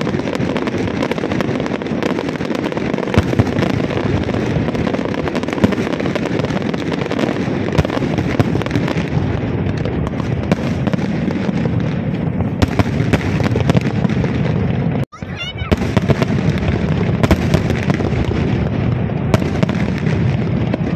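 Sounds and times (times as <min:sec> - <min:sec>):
fireworks bangs and crackling: 0:00.0 - 0:20.9.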